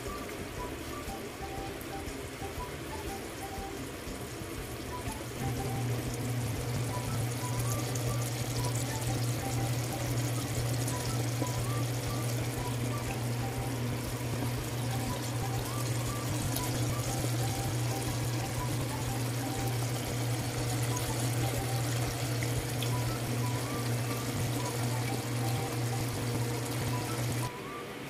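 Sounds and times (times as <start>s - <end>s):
food bubbling in a wok: 0.0s - 27.5s
steady low hum: 0.0s - 28.0s.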